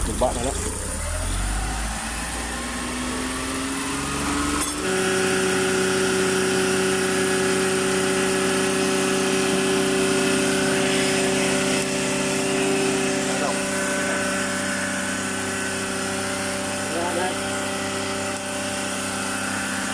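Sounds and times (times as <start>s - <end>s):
car engine running: 0.0s - 19.9s.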